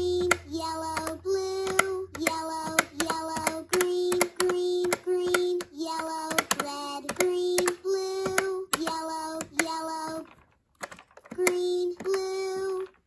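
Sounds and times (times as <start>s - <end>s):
toy piano electronic notes: 0.0s - 13.0s.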